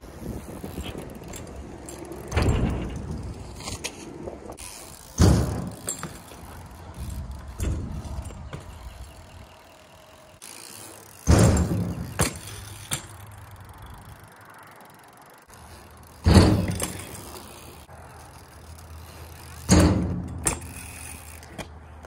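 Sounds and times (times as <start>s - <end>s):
bike hitting asphalt: 0.0s - 22.0s
tyres rolling on rough pavement: 0.0s - 22.0s.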